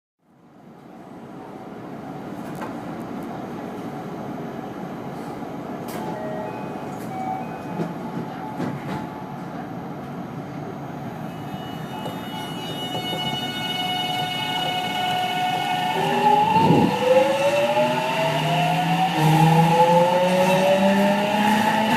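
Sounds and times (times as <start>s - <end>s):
train car rumble: 0.7s - 21.9s.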